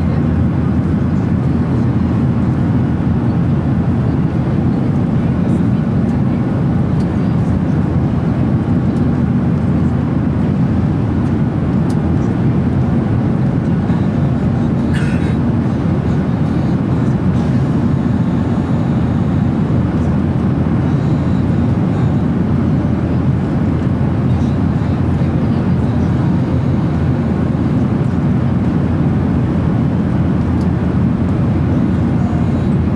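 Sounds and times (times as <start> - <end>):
airplane cabin engine noise: 0.0 - 32.9.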